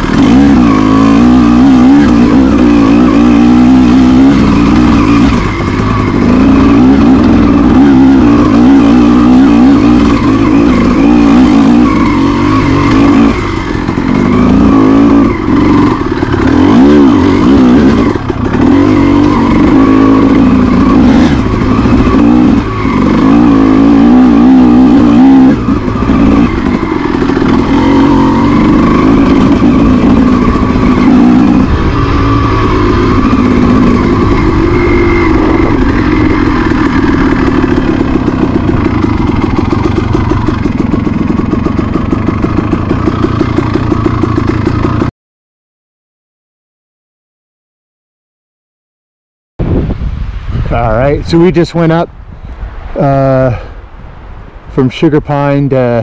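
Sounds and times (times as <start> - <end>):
dirt bike engine revving: 0.0 - 45.1, 50.7 - 52.1.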